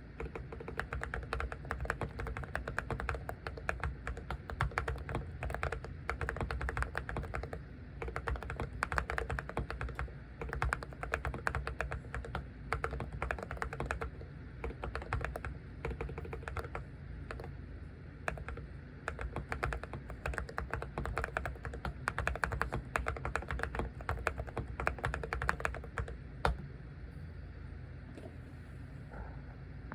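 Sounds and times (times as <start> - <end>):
fast typing on keyboard: 0.1 - 17.6, 18.2 - 26.6.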